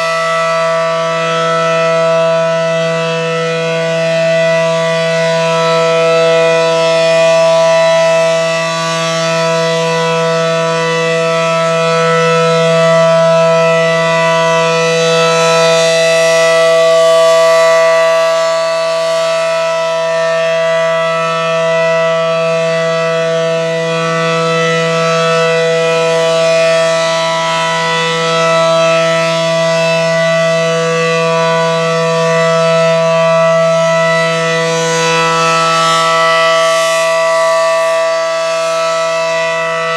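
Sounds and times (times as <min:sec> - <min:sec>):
steady warning siren: 0:00.0 - 0:39.9.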